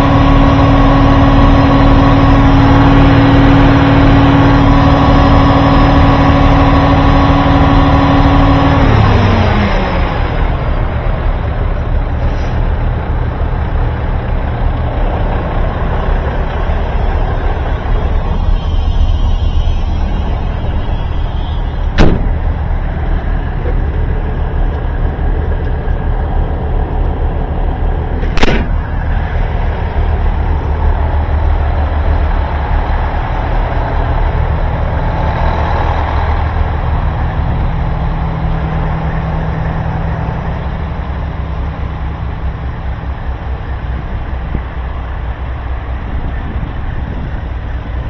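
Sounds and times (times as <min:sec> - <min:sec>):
diesel truck engine idling: 0:00.0 - 0:48.0.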